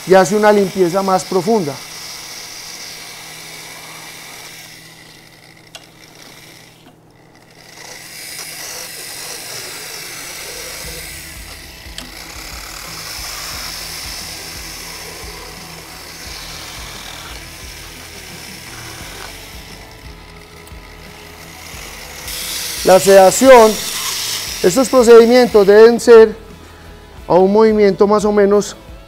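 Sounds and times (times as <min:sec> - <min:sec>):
electric dental tool whirring: 0:00.0 - 0:27.8.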